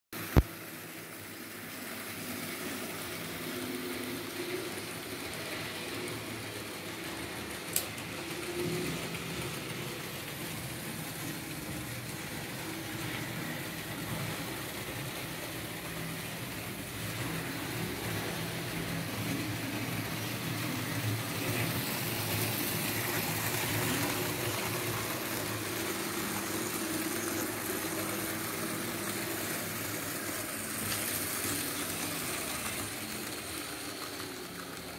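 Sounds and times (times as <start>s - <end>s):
model train motor hum: 0.3s - 34.9s.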